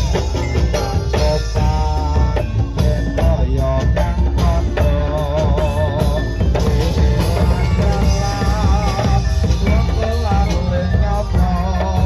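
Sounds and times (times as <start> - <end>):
drums and gamelan instruments: 0.0 - 12.0
person singing wavering notes: 0.0 - 12.0.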